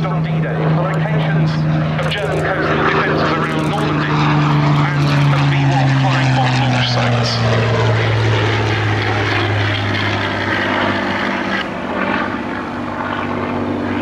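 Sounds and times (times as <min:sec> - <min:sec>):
aircraft engine overhead: 0:00.0 - 0:14.0.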